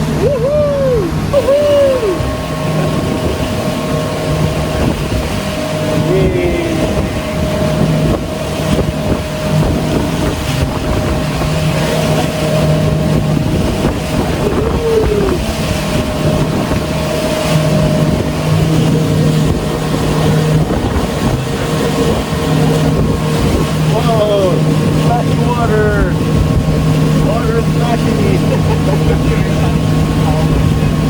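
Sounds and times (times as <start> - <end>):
boat motor running: 0.0 - 31.0
water rushing past hull: 0.0 - 31.0
wind buffeting microphone: 0.0 - 31.0.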